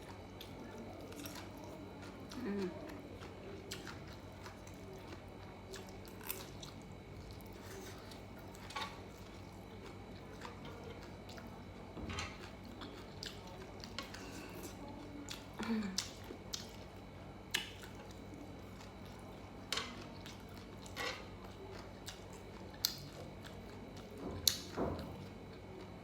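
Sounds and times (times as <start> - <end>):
person chewing: 0.0 - 11.6, 12.4 - 24.7.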